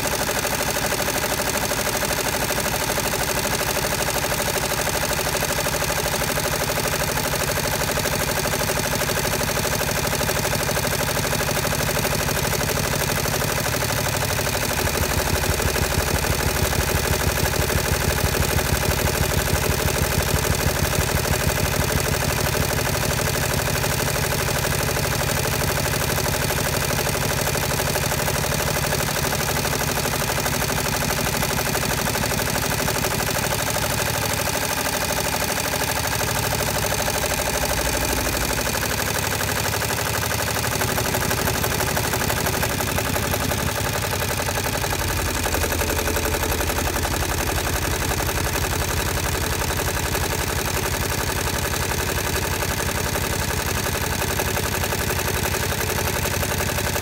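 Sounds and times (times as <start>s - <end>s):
embroidery machine stitching: 0.0s - 57.0s.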